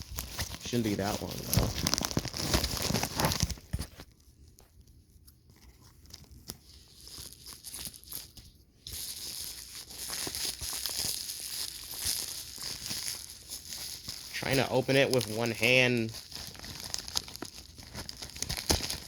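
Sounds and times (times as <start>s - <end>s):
packaging crinkling and tearing: 0.0s - 4.8s, 5.6s - 19.0s.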